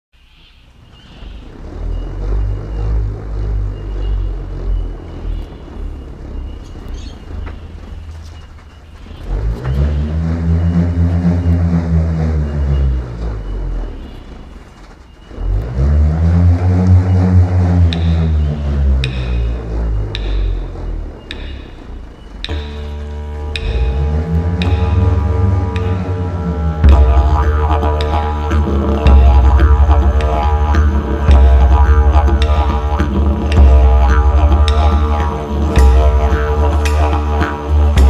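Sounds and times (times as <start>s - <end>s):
didgeridoo drone: 0.7s - 38.0s.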